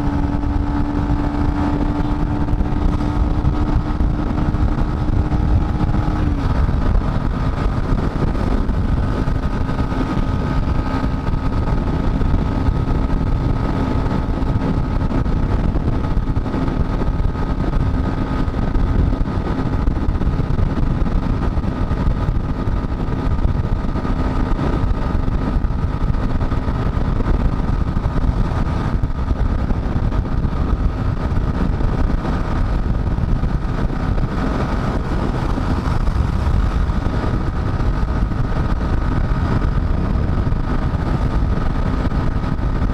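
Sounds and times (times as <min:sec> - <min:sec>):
motorcycle engine cruising: 0:00.0 - 0:42.9
wind and road noise: 0:00.0 - 0:42.9.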